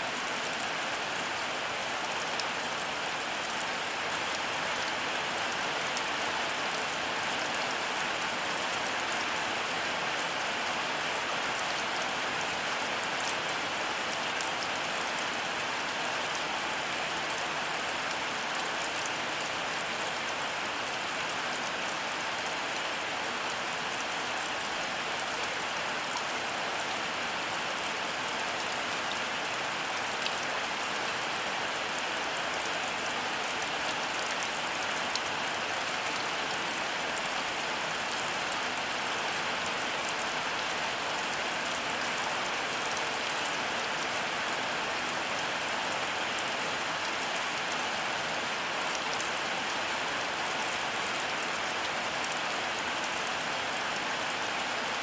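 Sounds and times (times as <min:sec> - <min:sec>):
heavy rain patter: 0:00.0 - 0:55.0.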